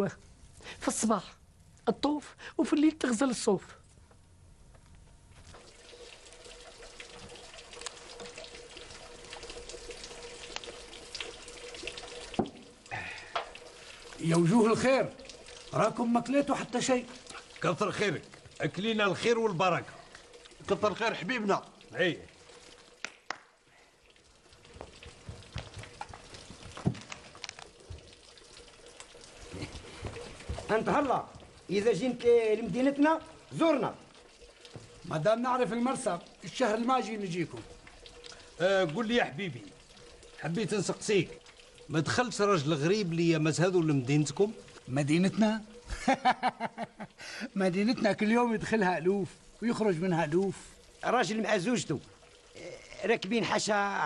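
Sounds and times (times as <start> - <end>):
water drips: 0.0 - 54.0
water falling into stone basin: 5.3 - 54.0.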